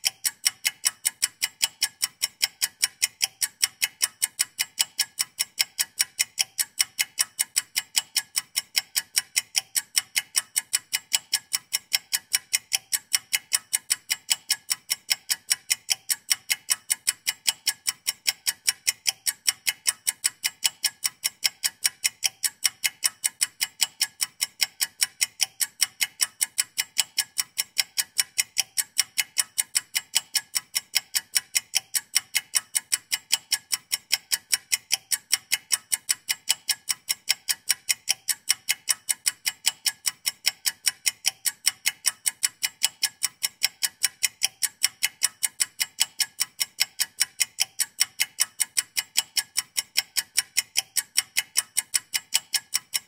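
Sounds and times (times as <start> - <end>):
clock ticking fast: 0.0 - 53.0.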